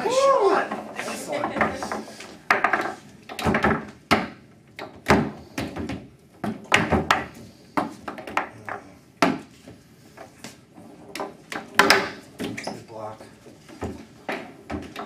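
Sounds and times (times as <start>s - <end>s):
foosball ball and rods clacking: 0.5s - 12.8s, 13.4s - 15.0s.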